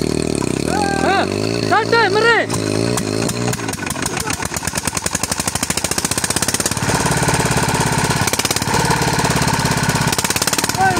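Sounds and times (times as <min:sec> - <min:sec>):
diesel engine thumping: 0:00.0 - 0:10.9.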